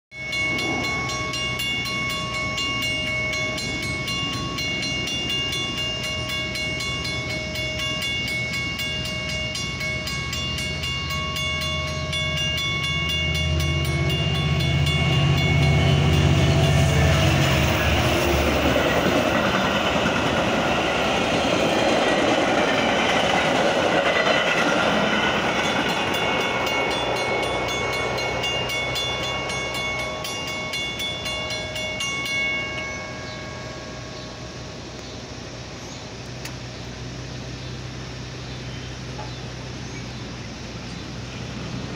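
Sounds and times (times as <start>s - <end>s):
crossing warning bells ringing: 0.1s - 41.9s
train rolling rail noise: 0.1s - 41.9s
diesel locomotive rumble: 0.2s - 41.9s.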